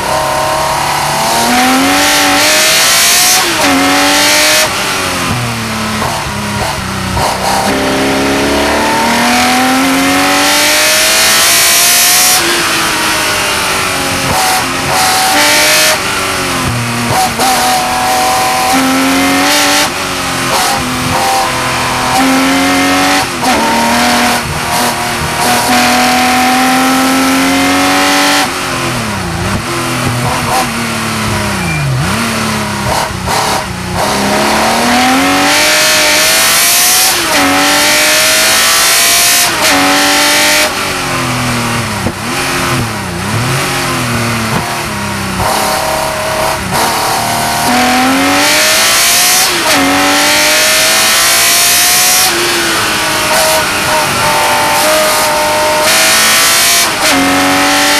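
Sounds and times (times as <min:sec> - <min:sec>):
racing car engine accelerating: 0:00.0 - 0:57.9.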